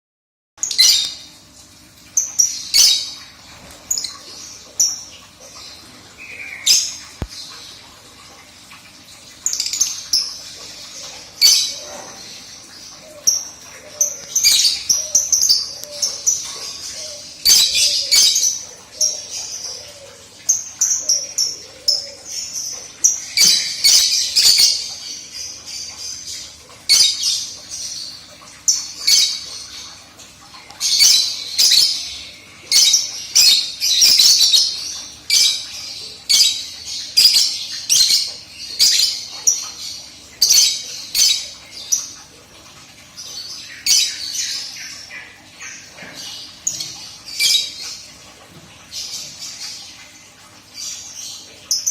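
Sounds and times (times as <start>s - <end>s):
lovebirds chirping and squawking: 0.6s - 1.3s, 2.2s - 7.9s, 9.1s - 42.3s, 43.2s - 51.9s.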